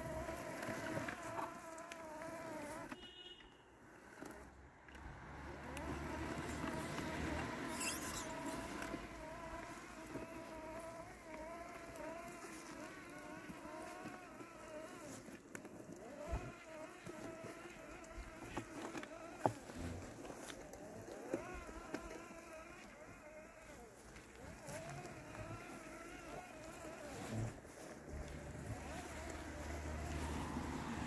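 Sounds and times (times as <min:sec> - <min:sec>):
robotic lawn mower buzzing whine: 0:00.0 - 0:03.2, 0:03.9 - 0:31.0.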